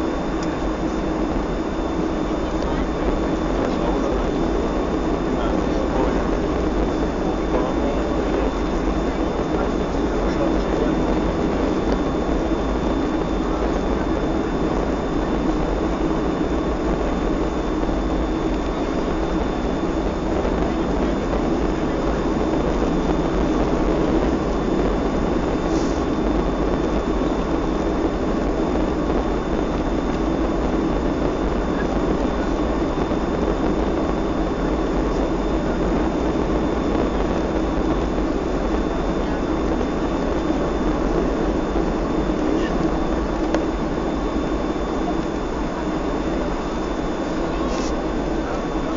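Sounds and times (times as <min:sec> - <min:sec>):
airplane cabin jet engine noise: 0:00.0 - 0:48.9
low hum: 0:00.0 - 0:48.9.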